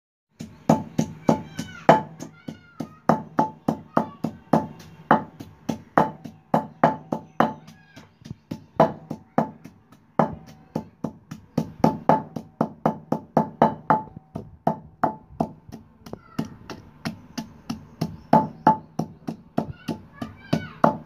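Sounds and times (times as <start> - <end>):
pestle pounding in clay mortar: 0.3 - 21.0.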